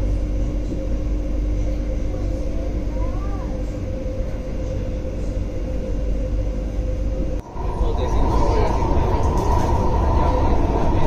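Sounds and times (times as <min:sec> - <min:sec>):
constant hum: 0:00.0 - 0:11.0
train wheels rumbling on rail: 0:00.0 - 0:11.0.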